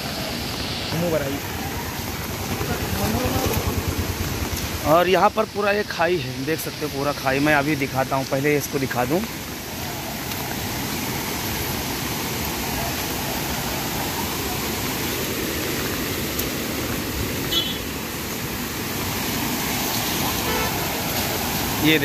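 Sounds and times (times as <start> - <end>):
waterfall pouring over rocks: 0.0 - 22.0.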